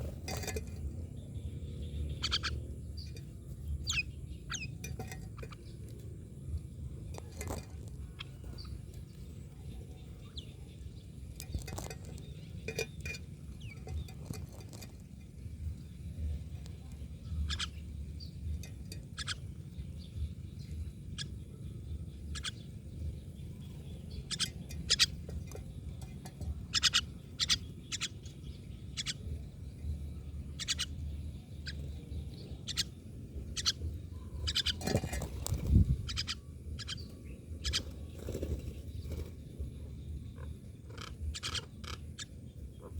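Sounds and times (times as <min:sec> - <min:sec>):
myna birds calling: 0:00.0 - 0:42.9.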